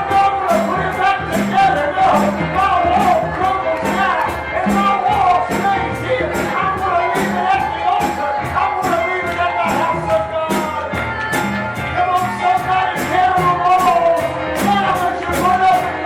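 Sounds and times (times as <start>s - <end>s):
drums and tambourine beat: 0.0s - 16.0s.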